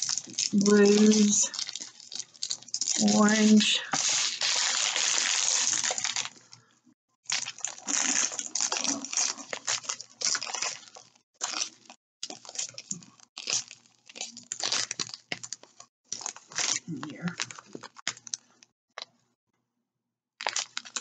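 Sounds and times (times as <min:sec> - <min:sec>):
plastic bags crinkling: 0:00.0 - 0:06.6, 0:07.3 - 0:18.6, 0:20.4 - 0:21.0.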